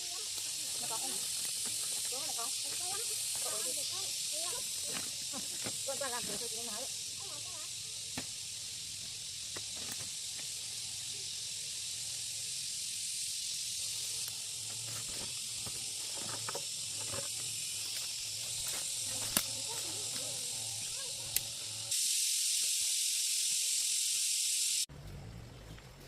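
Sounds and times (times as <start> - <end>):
high-pitched hiss: 0.0 - 24.9.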